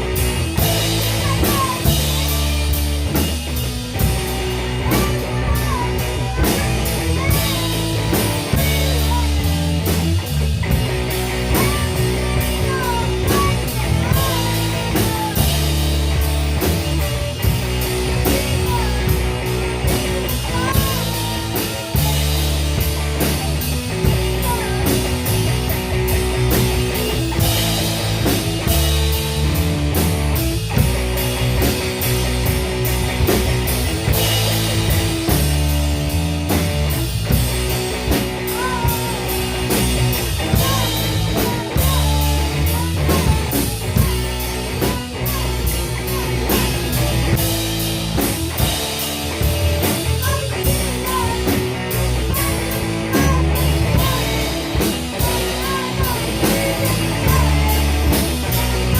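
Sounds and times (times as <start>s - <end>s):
rock band playing: 0.0s - 58.9s.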